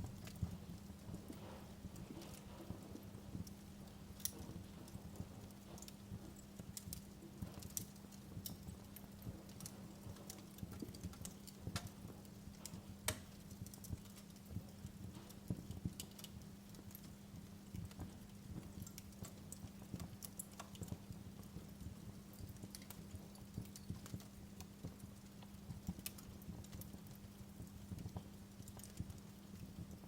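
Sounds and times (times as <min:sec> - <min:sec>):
low steady hum: 0:00.0 - 0:30.0
wood fire crackling and popping: 0:00.0 - 0:30.0.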